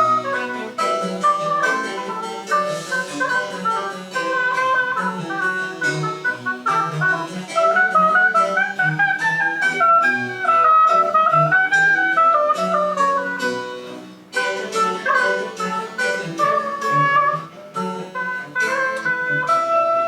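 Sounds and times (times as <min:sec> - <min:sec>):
wind melody: 0:00.0 - 0:20.0.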